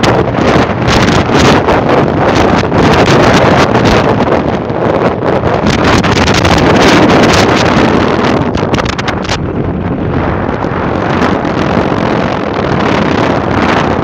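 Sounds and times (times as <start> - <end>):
vehicle low rumble: 0.0 - 14.0
wind buffeting microphone: 0.0 - 14.0.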